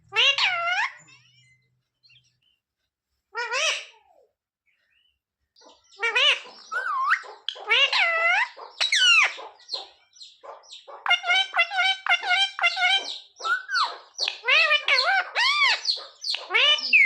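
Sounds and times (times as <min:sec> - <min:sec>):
parrot calling: 0:00.0 - 0:02.5, 0:03.3 - 0:04.3, 0:05.6 - 0:17.0.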